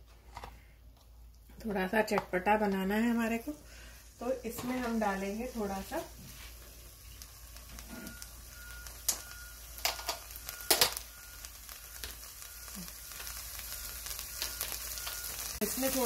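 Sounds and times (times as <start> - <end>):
corn frying in a pan: 0.4 - 16.0.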